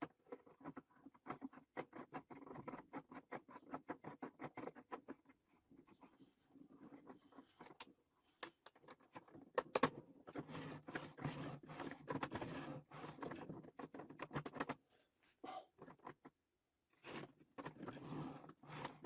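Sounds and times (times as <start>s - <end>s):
rustling and scraping: 0.0s - 16.3s, 16.9s - 19.0s.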